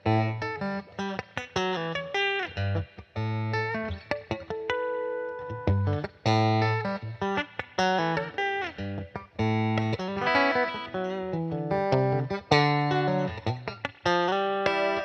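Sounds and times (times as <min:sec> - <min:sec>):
electric guitar playing blues: 0:00.0 - 0:15.0.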